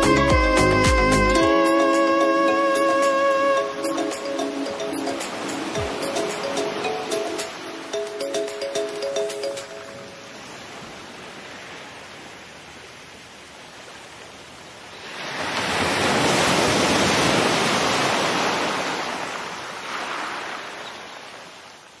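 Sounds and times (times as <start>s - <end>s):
sea water rushing past boat: 0.0s - 22.0s
wind: 0.0s - 22.0s.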